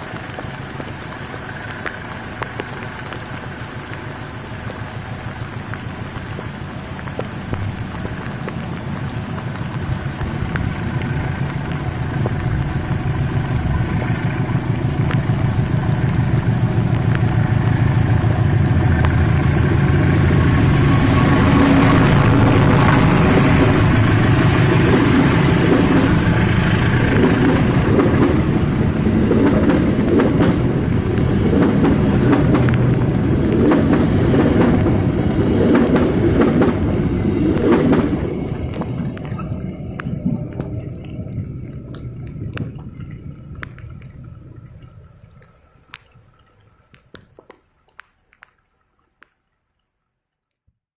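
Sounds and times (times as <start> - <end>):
diesel locomotive engine under load: 0.0 - 46.0.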